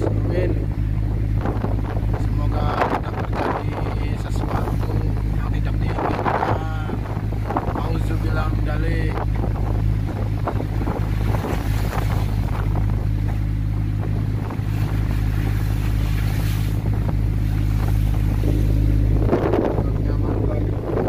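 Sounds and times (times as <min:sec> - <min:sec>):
boat engine humming: 0:00.0 - 0:21.0
choppy sea rushing: 0:00.0 - 0:21.0
wind buffeting microphone: 0:00.0 - 0:21.0.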